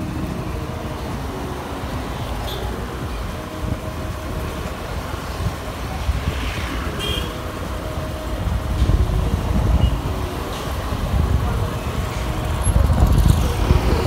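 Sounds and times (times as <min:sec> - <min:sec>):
passing traffic: 0:00.0 - 0:14.0
scooter engine hum: 0:00.0 - 0:14.0
wind buffeting microphone: 0:00.0 - 0:14.0.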